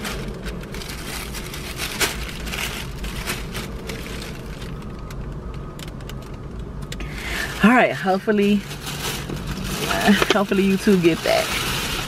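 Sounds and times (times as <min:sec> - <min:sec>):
plastic bag rustling: 0:00.0 - 0:06.5, 0:07.1 - 0:12.0
low steady rumble: 0:00.0 - 0:12.0.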